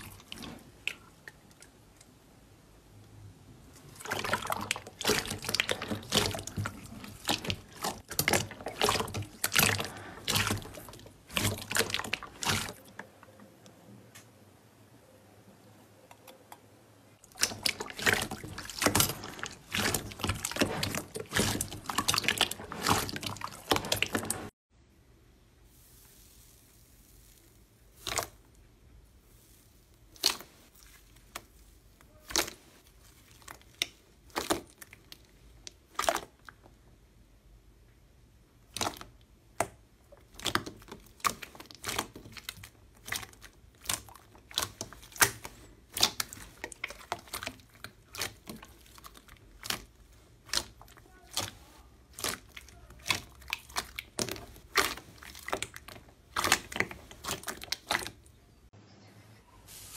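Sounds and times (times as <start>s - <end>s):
hands squishing slime: 0.0s - 2.0s, 3.7s - 13.1s, 17.2s - 24.5s, 25.7s - 36.6s, 38.6s - 58.4s.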